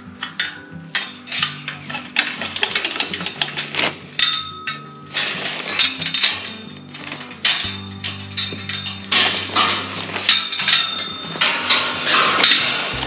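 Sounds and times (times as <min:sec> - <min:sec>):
background music: 0:00.0 - 0:13.0
metal gate clanking and rattling: 0:00.0 - 0:13.0.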